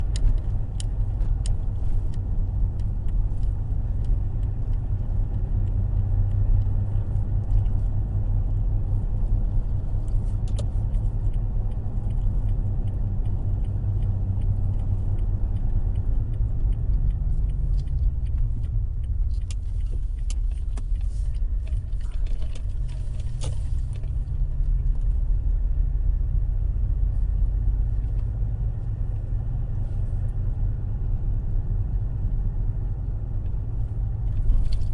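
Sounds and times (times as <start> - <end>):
low road and drivetrain rumble: 0.0 - 34.9.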